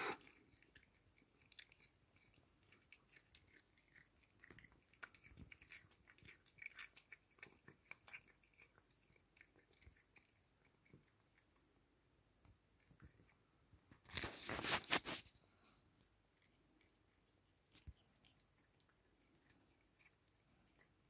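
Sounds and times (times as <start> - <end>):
cat crunching on mouse: 0.0 - 15.3, 16.1 - 21.0.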